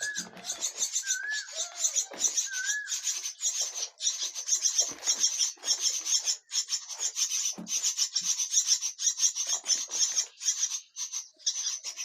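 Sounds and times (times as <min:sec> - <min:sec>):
nestlings rasping begging calls: 0:00.0 - 0:12.0.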